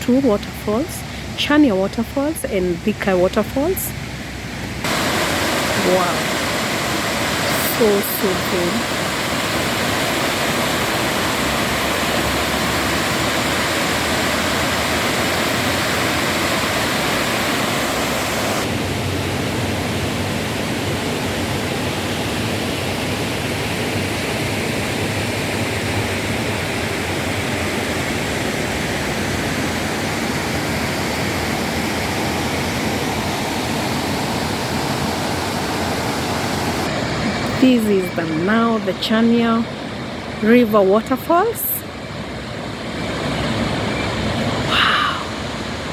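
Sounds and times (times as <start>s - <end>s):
waterfall rushing: 4.7s - 38.6s, 41.9s - 45.9s.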